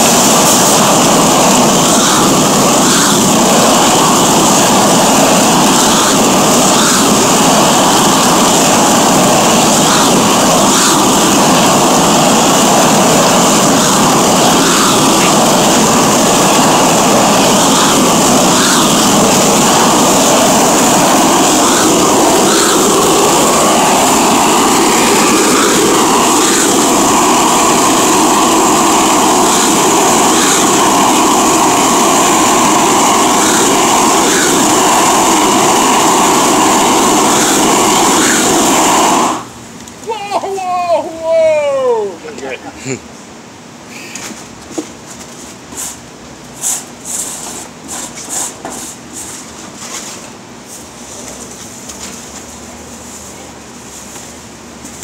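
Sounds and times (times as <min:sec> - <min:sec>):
propane burners roaring: 0:00.0 - 0:55.0.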